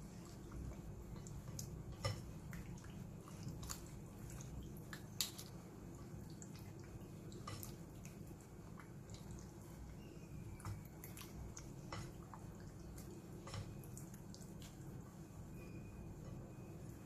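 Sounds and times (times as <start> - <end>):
faint squelching of marinade: 0.0 - 17.0.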